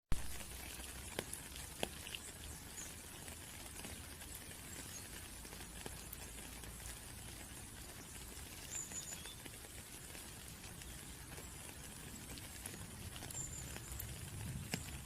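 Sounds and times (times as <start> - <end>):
light rain hissing: 0.1 - 15.0
raindrops ticking: 0.1 - 15.0.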